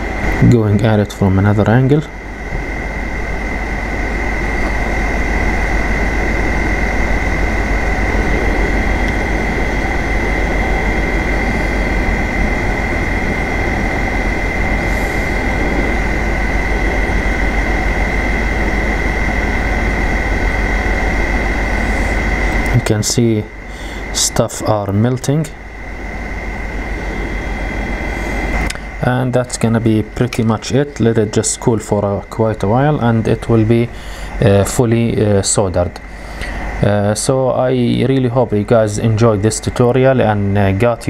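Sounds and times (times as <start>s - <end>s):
blower motor whine: 0.0s - 41.0s
hot air blower rushing: 0.0s - 41.0s.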